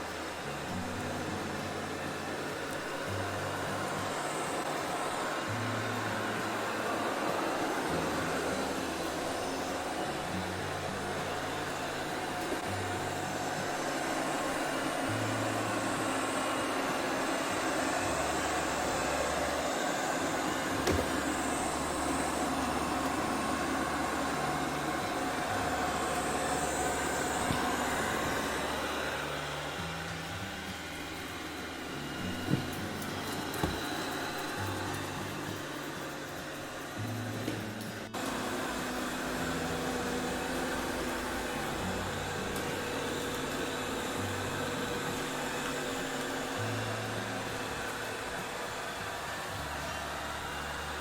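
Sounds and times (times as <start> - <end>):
robot vacuum cleaner whirring: 0.0 - 51.0.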